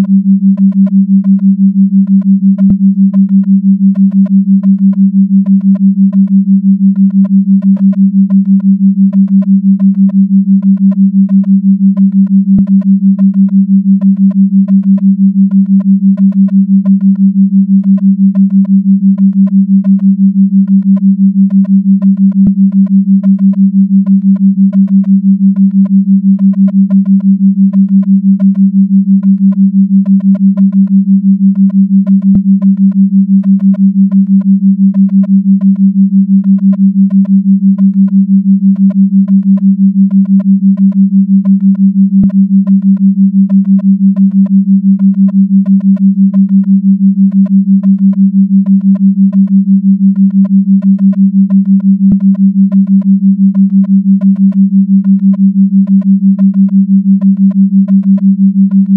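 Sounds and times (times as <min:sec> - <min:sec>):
pulsing low sine tone: 0:00.0 - 0:58.9.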